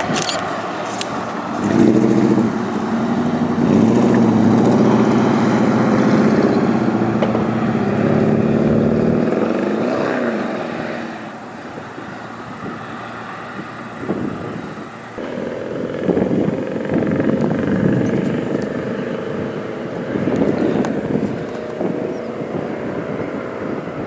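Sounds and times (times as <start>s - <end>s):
vehicle engine running: 0.0s - 24.0s
wind and road noise: 0.0s - 24.0s.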